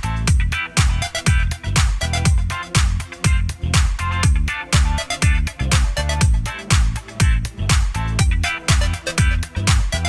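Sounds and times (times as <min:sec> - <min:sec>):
electronic dance music: 0:00.0 - 0:10.0
kick drum beat: 0:00.0 - 0:10.0.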